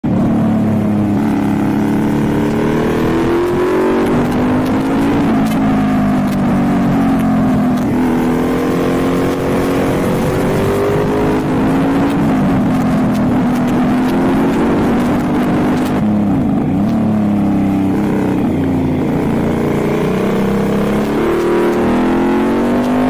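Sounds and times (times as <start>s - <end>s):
motorcycle engine revving: 0.0s - 23.0s
steady rushing noise: 0.0s - 23.0s.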